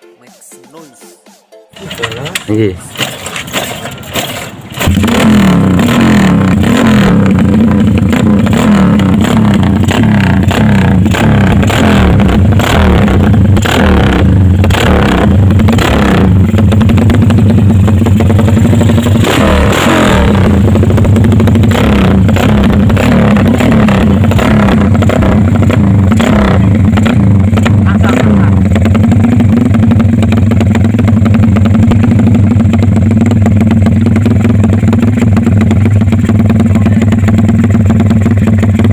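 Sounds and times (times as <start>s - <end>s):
loud motorcycle engine revving: 1.8s - 38.9s.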